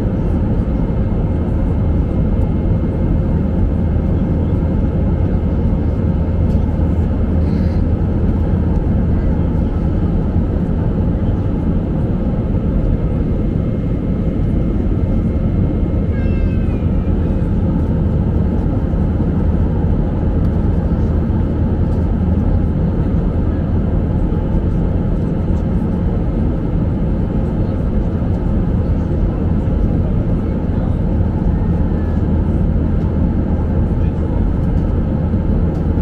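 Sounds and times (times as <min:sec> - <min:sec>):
jet airliner cabin noise: 0:00.0 - 0:36.0.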